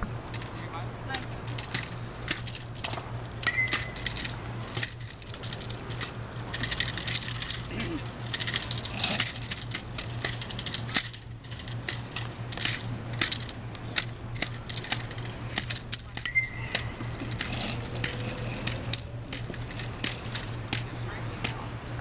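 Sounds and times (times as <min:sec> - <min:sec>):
light rattling: 0:00.0 - 0:21.7
steady low hum: 0:00.0 - 0:22.0
sharp clicks: 0:00.3 - 0:21.6.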